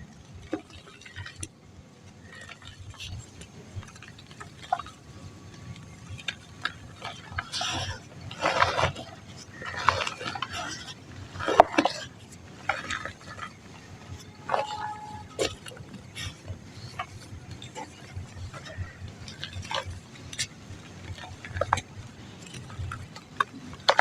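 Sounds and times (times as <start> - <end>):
dry mud crumbling and crunching: 0.0 - 24.0.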